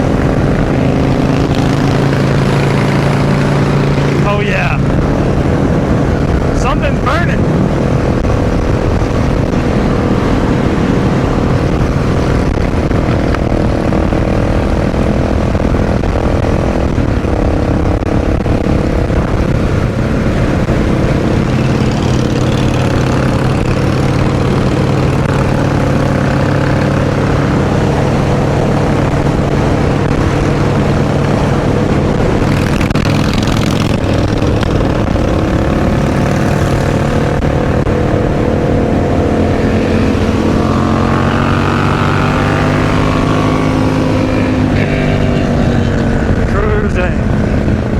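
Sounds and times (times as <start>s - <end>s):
motorcycle engine running: 0.0s - 47.9s
wind noise: 0.0s - 47.9s.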